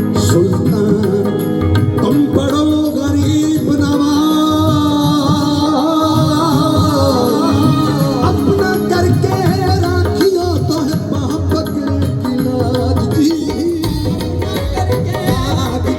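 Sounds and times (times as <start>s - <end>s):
drum beat: 0.0s - 15.9s
folk music over sound system: 0.0s - 15.9s
sustained sung or played melody: 0.0s - 15.9s.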